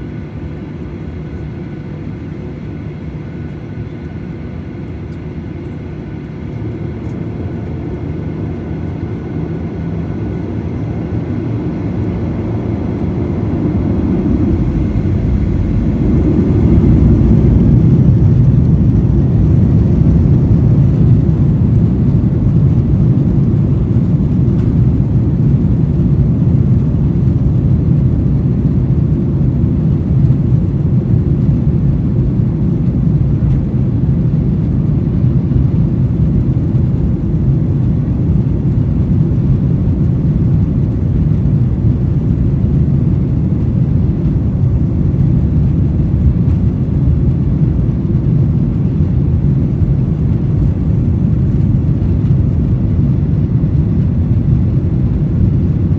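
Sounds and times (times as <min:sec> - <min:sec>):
jet engine cabin roar: 0:00.0 - 0:55.9.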